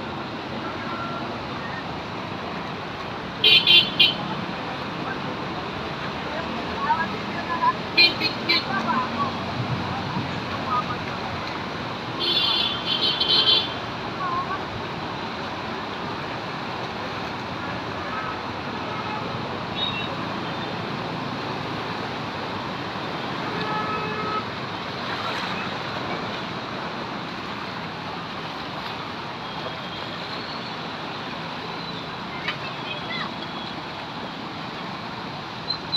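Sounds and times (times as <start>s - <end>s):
traffic noise: 0.0s - 35.9s.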